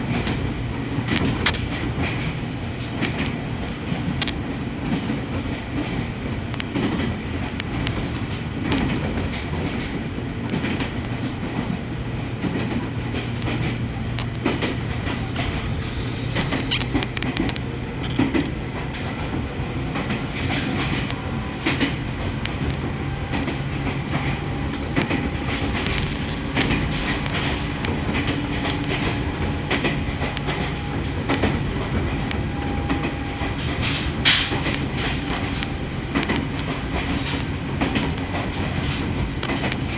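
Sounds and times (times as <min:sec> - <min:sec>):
electric train hum: 0:00.0 - 0:39.9
wheels clicking over rail joints: 0:00.0 - 0:39.9.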